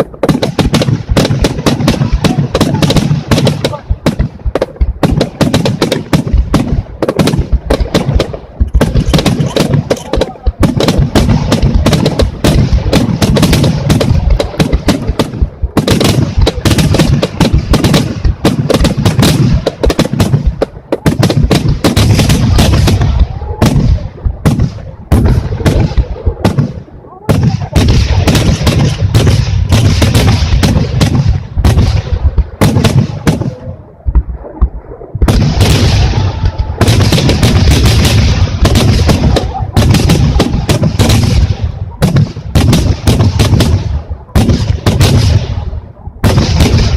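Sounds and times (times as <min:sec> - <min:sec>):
fireworks bursting: 0:00.0 - 0:46.9.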